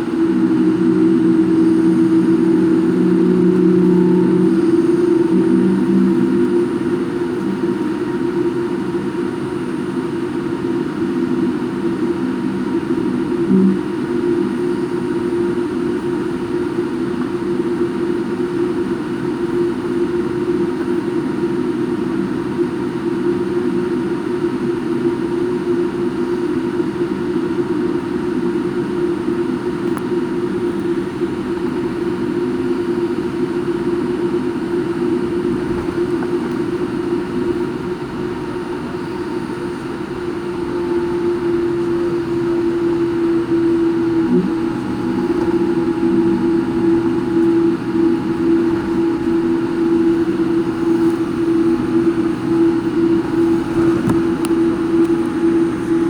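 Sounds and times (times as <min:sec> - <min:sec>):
airliner cabin engine drone: 0:00.0 - 0:56.0.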